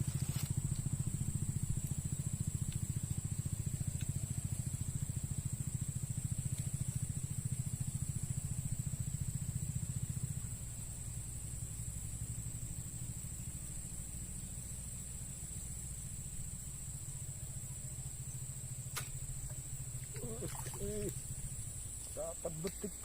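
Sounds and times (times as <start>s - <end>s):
small engine throbbing: 0.0s - 23.0s.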